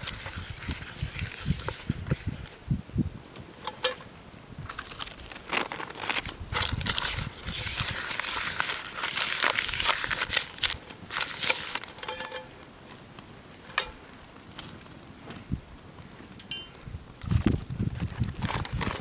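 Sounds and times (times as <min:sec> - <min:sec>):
crinkling and rustling: 0:00.0 - 0:02.7, 0:03.3 - 0:19.0.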